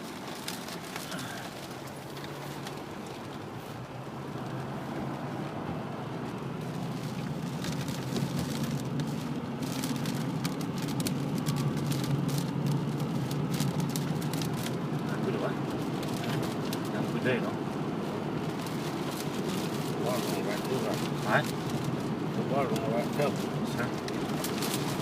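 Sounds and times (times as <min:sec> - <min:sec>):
rain spatters: 0:00.0 - 0:25.0.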